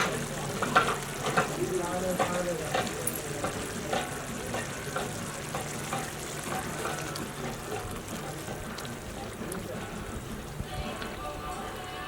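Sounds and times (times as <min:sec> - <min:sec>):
food sizzling in a pan: 0:00.0 - 0:10.8.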